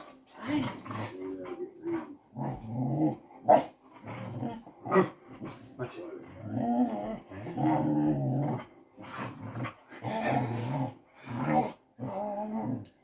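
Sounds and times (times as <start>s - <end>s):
dog growling: 0.0s - 13.0s.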